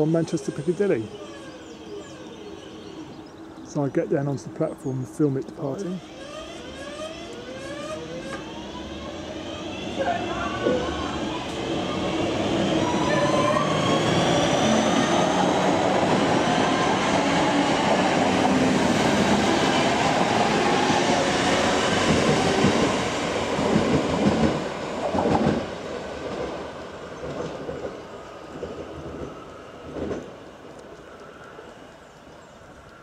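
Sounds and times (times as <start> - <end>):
passenger train rumbling past: 0.0 - 33.0.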